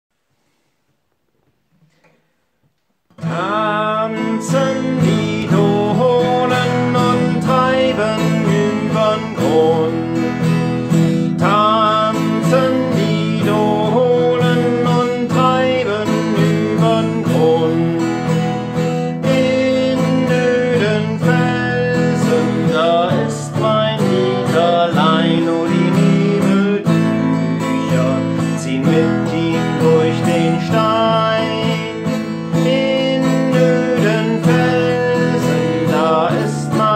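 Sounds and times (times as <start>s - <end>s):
acoustic guitar strumming: 3.1s - 36.9s.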